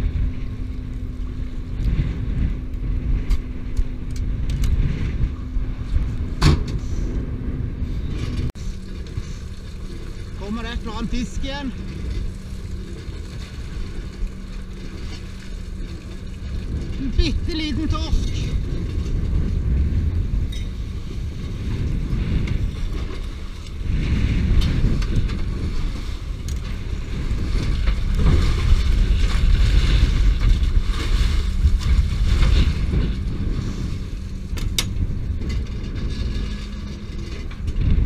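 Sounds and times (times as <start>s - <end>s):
boat engine humming: 0.0s - 38.0s
wind buffeting microphone: 0.0s - 38.0s.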